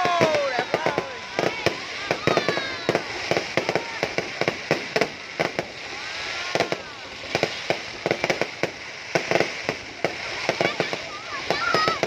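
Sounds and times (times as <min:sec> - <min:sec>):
fireworks banging and popping: 0:00.0 - 0:12.0.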